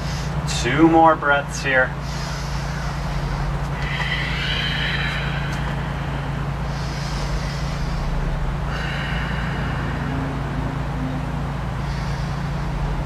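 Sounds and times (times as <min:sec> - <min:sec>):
low background hum: 0:00.0 - 0:13.0
person breathing slowly: 0:01.9 - 0:13.0.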